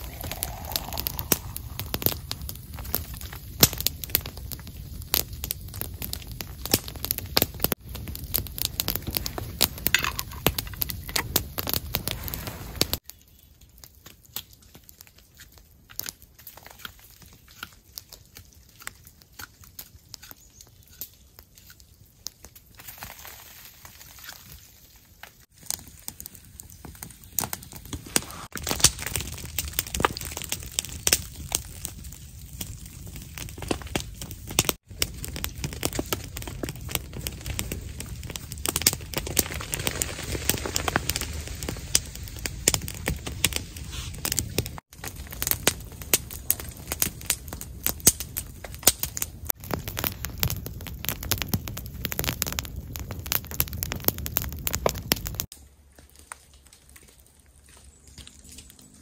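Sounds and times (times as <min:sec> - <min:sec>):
campfire crackling and popping: 0:00.0 - 0:57.8.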